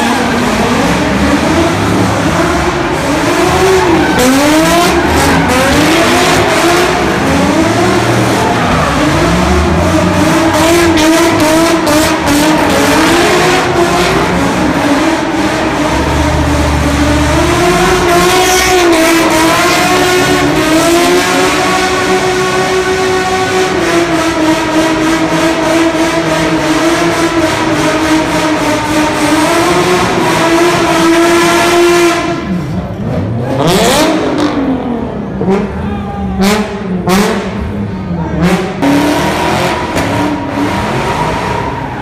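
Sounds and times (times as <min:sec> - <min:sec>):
car engine revving: 0:00.0 - 0:42.0
tire noise: 0:00.0 - 0:42.0.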